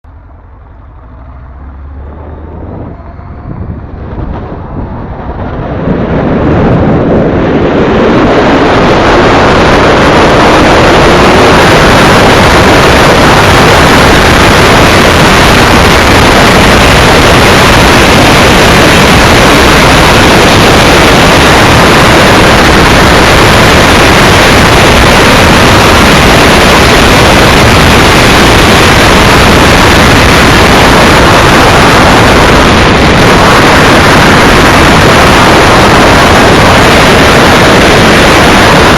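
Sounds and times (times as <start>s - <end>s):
wind buffeting microphone: 0.1s - 38.9s.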